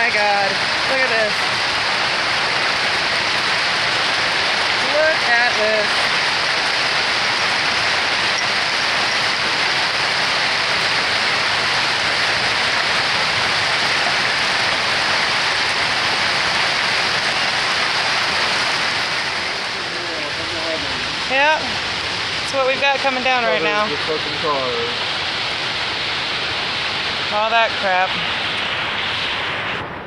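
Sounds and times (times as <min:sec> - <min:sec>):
hail and rain hitting ground: 0:00.0 - 0:29.5.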